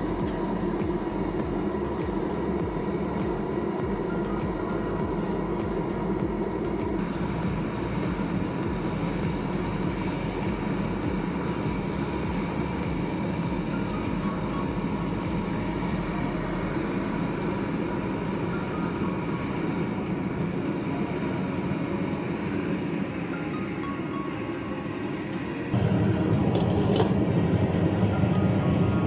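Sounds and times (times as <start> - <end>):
propane burner roaring: 0.0 - 29.0.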